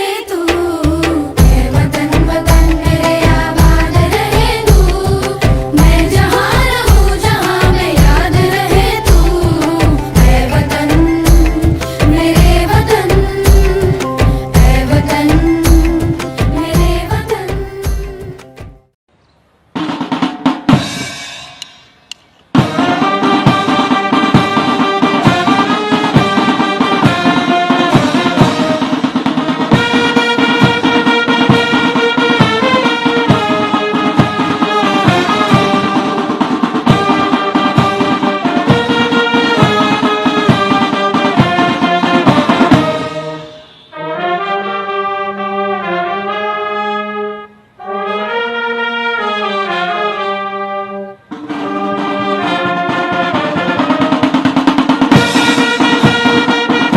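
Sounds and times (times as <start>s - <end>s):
steady drum beat: 0.0s - 18.9s, 19.8s - 43.4s, 51.3s - 56.9s
brass band music: 1.4s - 17.2s, 22.5s - 56.9s.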